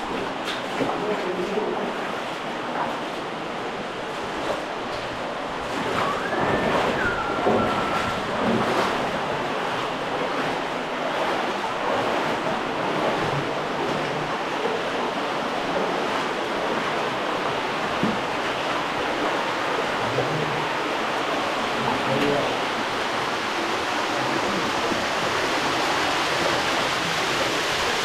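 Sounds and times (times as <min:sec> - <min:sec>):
stream flowing over rock: 0:03.3 - 0:28.0.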